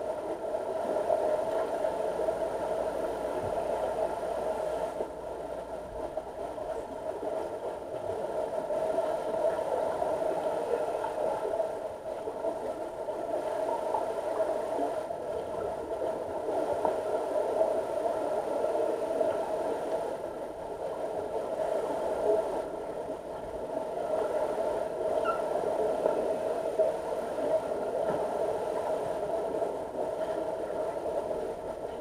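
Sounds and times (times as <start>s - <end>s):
underwater hum and hiss: 0.0s - 32.0s.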